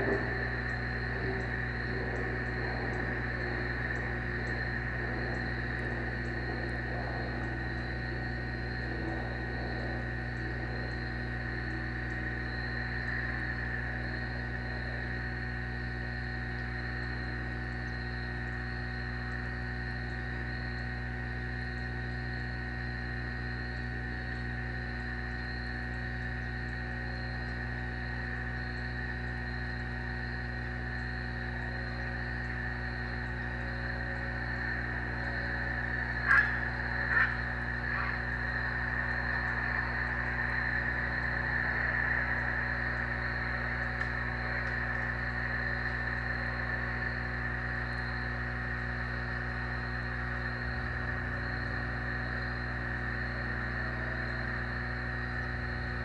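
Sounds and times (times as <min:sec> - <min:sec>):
high-pitched insect chorus: 0:00.0 - 0:56.0
low electrical hum: 0:00.0 - 0:56.0.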